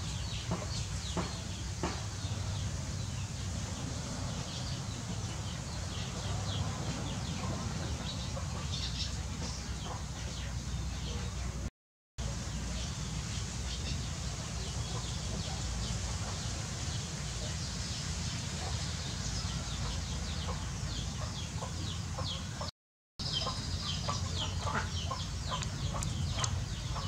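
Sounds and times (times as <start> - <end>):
poultry peeping and chirping: 0.0 - 11.6, 12.3 - 27.0.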